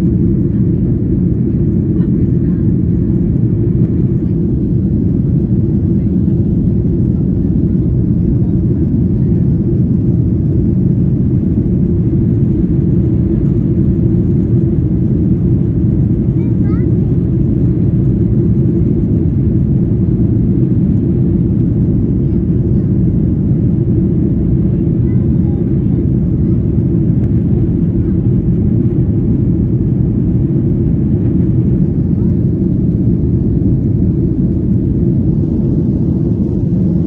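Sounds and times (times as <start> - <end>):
airplane cabin engine rumble: 0.0 - 37.0.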